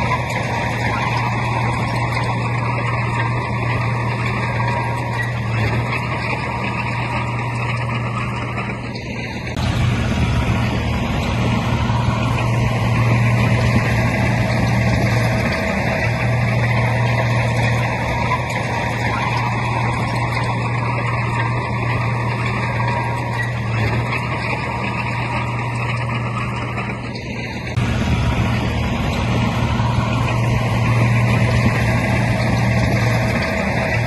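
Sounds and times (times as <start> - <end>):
diesel machinery engine drone: 0.0 - 34.0
mechanical rumble: 0.0 - 34.0.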